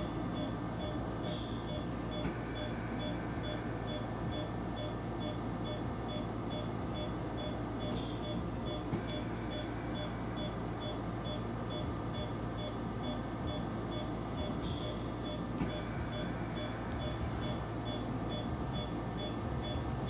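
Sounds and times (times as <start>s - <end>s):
low equipment hum: 0.0s - 20.0s
patient monitor beeping: 0.0s - 20.0s.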